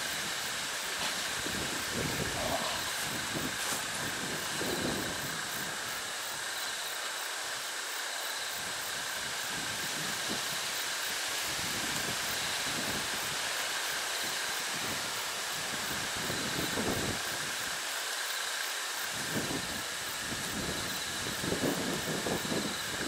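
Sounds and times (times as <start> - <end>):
faint high pulsing buzz: 0.0 - 23.0
outdoor background hiss: 0.0 - 23.0.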